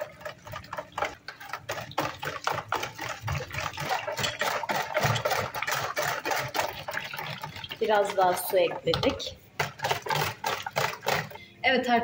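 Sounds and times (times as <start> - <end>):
utensil scraping bowl while stirring: 0.0 - 11.4.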